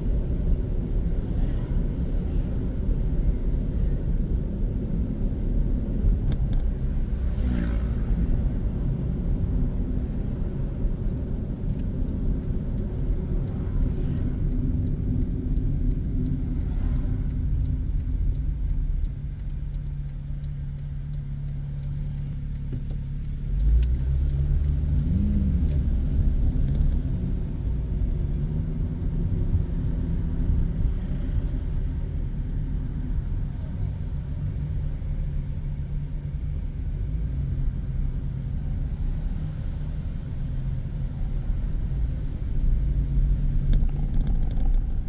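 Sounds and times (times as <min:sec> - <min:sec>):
engine and tyre rumble: 0:00.0 - 0:45.0.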